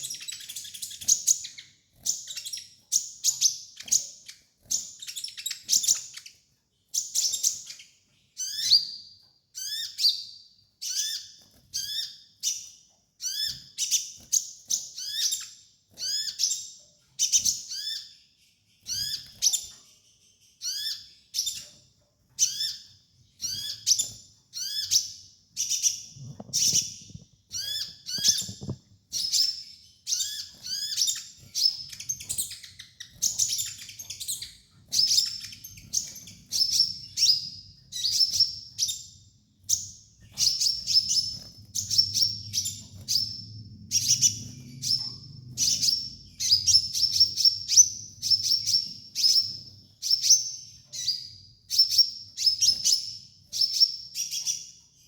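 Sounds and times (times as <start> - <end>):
sunbird chirping song: 0.0 - 55.0.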